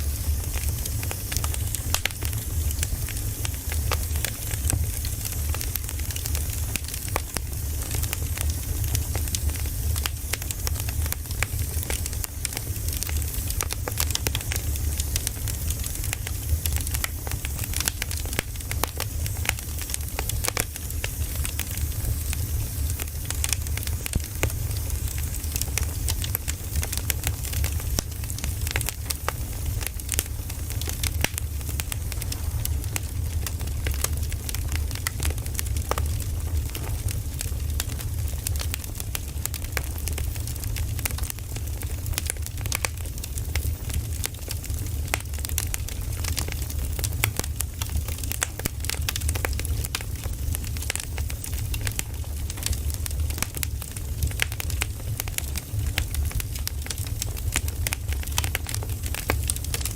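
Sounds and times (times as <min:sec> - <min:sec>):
crackling campfire: 0:00.0 - 0:59.9
low fire rumble: 0:00.0 - 0:59.9.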